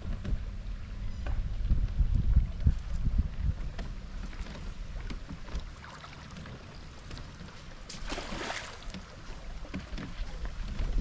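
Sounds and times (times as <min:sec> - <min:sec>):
water moving around raft: 0:00.0 - 0:11.0
wind rumble on microphone: 0:00.0 - 0:11.0.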